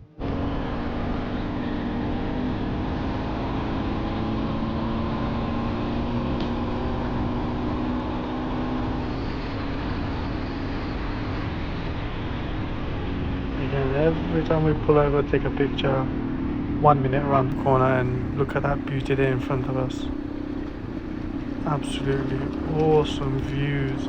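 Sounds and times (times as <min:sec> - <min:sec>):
motorcycle engine running: 0:00.1 - 0:24.0.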